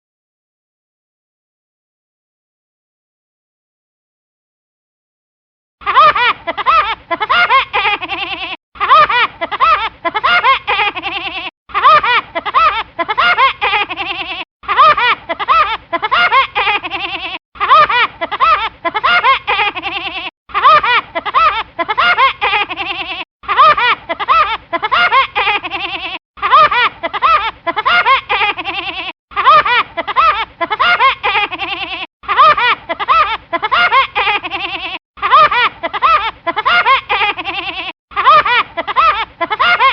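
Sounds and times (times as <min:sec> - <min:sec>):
cartoon bird laugh ringtone: 0:05.9 - 0:39.9.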